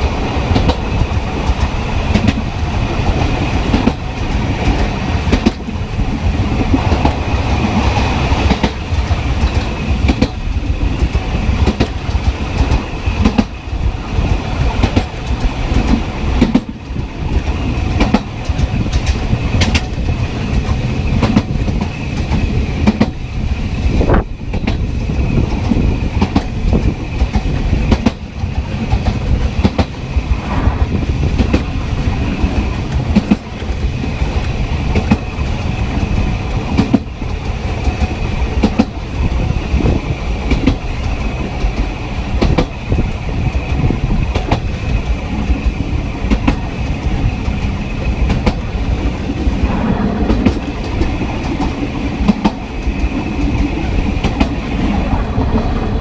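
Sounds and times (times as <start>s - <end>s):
wheels clacking over rail joints: 0.0s - 23.3s, 23.9s - 30.2s, 31.0s - 56.0s
train rumbling along track: 0.0s - 56.0s.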